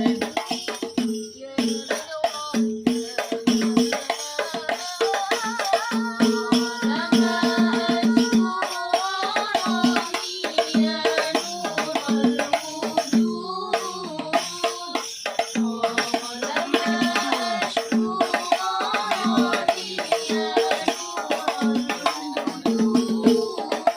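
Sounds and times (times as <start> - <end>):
frame drums playing fast rhythm: 0.0 - 23.9
person singing: 1.6 - 23.9.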